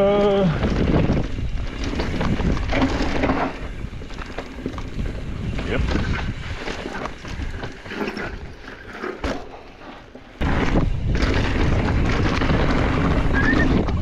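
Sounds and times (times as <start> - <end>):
wind buffeting microphone: 0.0 - 8.6, 10.4 - 14.0
trail rumble: 0.0 - 14.0.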